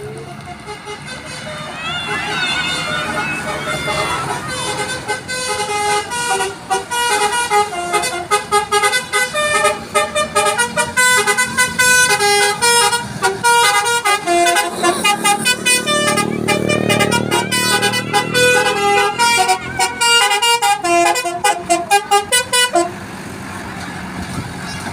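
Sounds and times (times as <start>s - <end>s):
musical bus horn melody: 0.0s - 23.1s.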